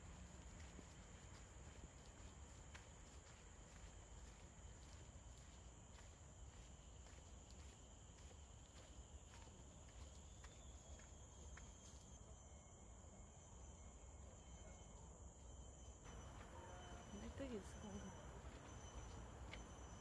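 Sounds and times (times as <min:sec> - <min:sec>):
footsteps on dirt trail: 0:00.0 - 0:12.2, 0:16.0 - 0:20.0
insect hum: 0:00.0 - 0:20.0.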